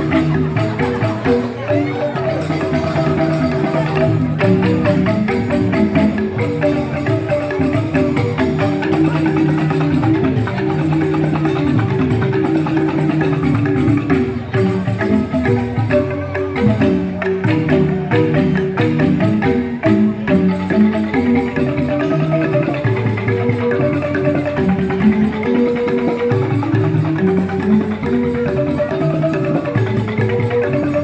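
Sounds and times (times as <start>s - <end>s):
bamboo xylophones playing: 0.0s - 31.0s.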